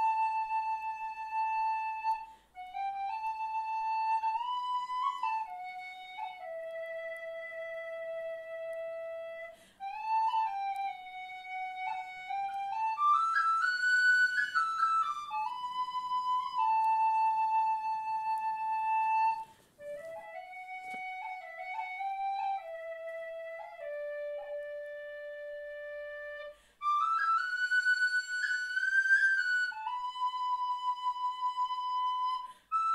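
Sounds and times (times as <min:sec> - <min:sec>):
flute-like solo melody: 0:00.0 - 0:32.9.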